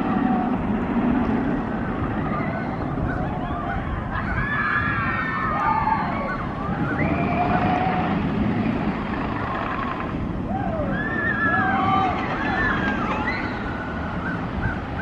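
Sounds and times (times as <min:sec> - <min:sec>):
roller coaster rumbling on track: 0:00.0 - 0:15.0
riders screaming: 0:01.8 - 0:15.0.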